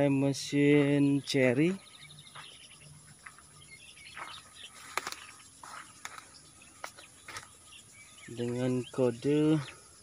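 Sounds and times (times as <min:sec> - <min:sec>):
bird chirps: 0:00.0 - 0:10.0
high-pitched insect drone: 0:00.0 - 0:10.0.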